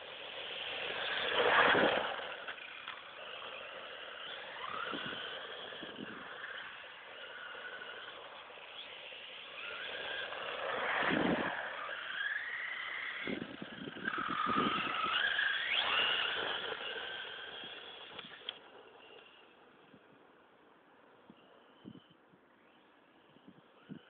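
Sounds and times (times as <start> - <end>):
rc car motor and gears whining: 0.0 - 24.0.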